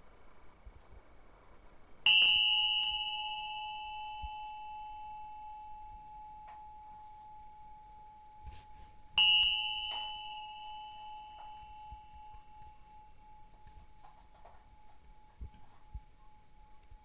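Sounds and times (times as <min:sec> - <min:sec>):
bell-like metal tone ringing: 0:02.0 - 0:17.0.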